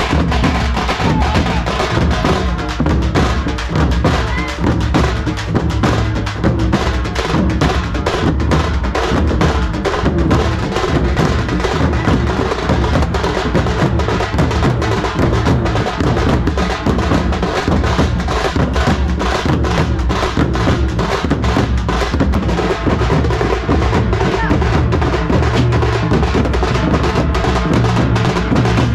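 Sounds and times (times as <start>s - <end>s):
drum band playing: 0.0s - 28.9s.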